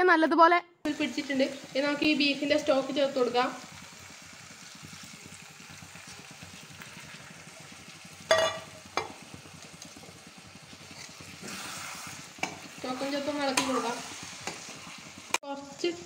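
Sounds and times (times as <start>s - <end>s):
food sizzling in a pan: 0.9s - 16.0s.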